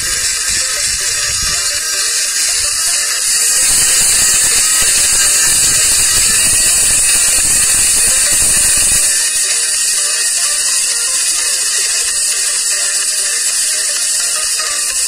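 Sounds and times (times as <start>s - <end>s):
loud high-pitched hiss: 0.0s - 15.0s.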